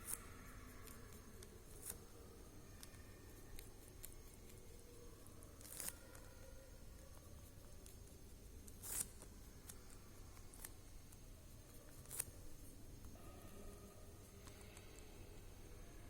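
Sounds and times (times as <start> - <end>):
faint scratchy sounds: 0.0 - 16.0.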